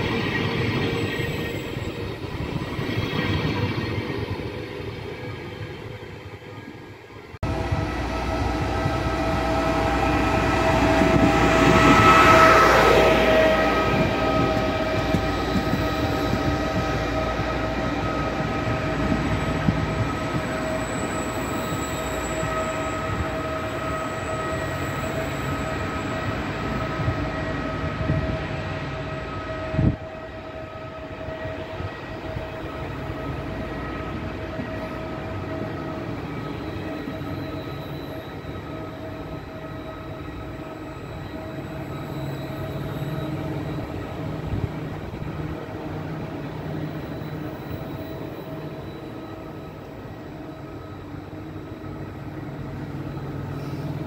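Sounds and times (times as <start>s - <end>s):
electric locomotive passing: 0.0s - 54.0s
train coaches rolling with high whine: 0.0s - 54.0s.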